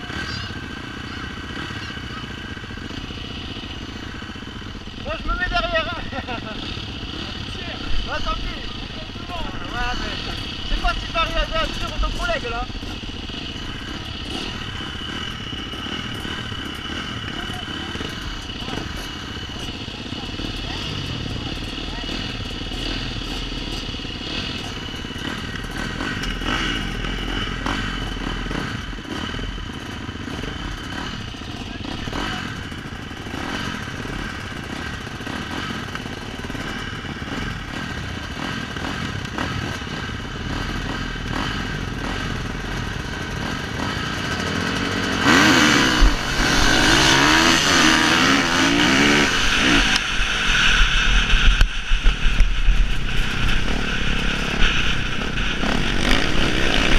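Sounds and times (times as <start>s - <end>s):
motocross bike engines: 0.0s - 56.9s.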